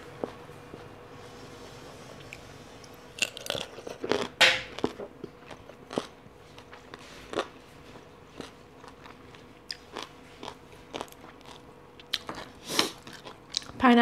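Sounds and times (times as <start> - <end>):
person chewing crunchy food: 2.1 - 13.8.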